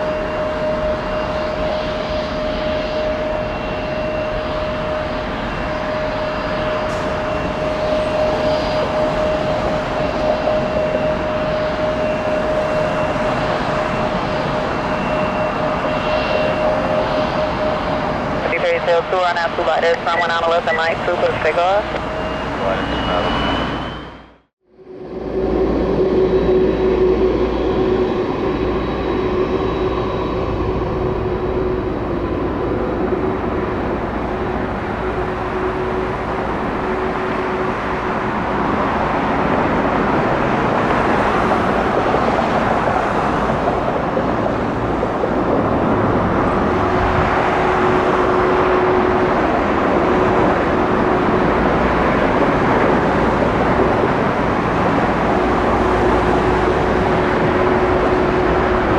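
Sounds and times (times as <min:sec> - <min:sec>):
jet engines rushing: 0:00.0 - 0:58.9.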